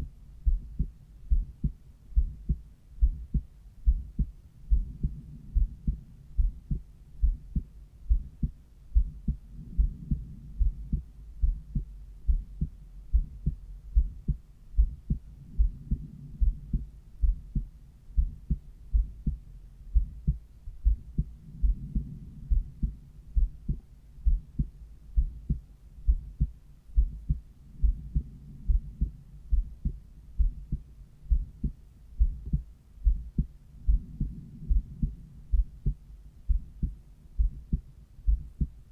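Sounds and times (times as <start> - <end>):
faint low rushing: 0.0 - 38.9
heartbeat through stethoscope: 0.0 - 38.9.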